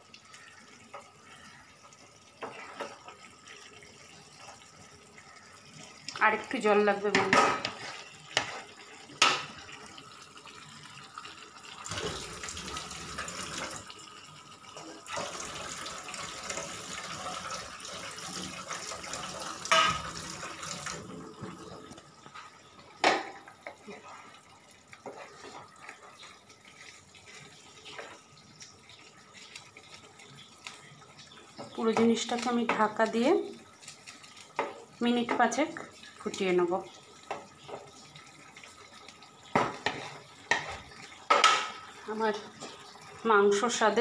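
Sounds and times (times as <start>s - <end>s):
water pouring into a pan: 0.0s - 44.0s.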